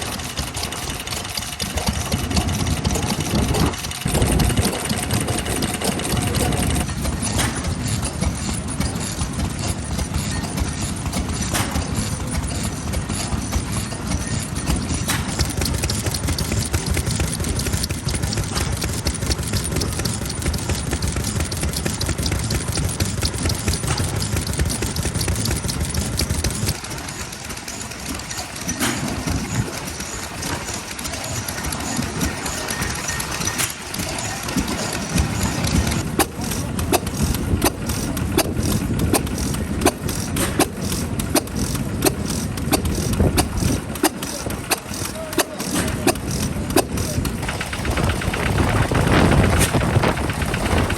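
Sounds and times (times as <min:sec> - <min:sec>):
stationary engines running: 0:00.0 - 0:50.9.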